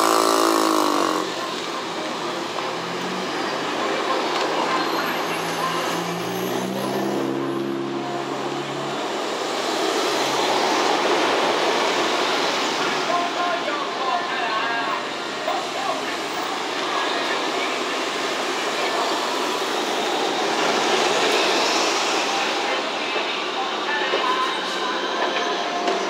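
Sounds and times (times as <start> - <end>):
street noise: 0.0 - 26.0.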